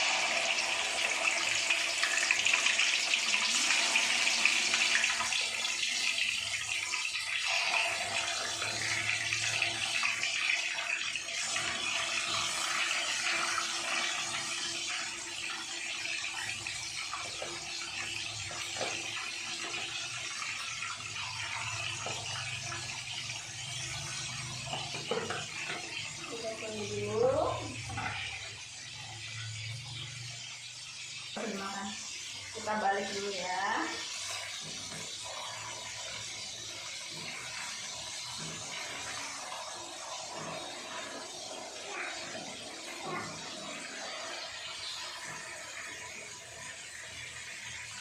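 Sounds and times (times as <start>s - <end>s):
fish sizzling in hot oil: 0.0s - 48.0s.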